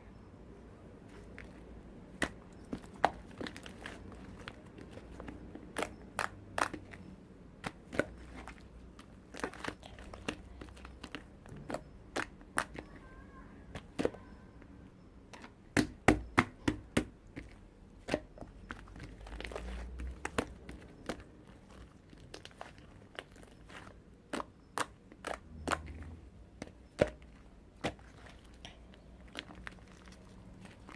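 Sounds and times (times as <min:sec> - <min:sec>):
crinkling: 0:01.0 - 0:15.6, 0:17.3 - 0:30.9.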